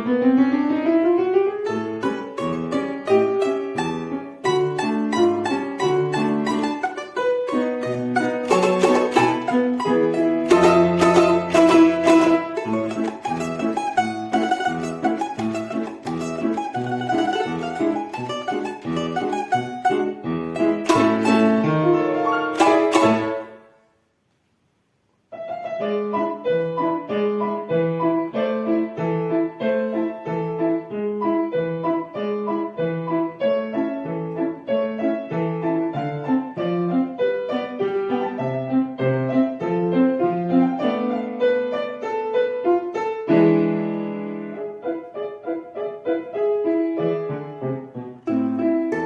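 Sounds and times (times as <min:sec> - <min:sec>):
piano playing: 0:00.0 - 0:24.0, 0:25.3 - 0:49.0.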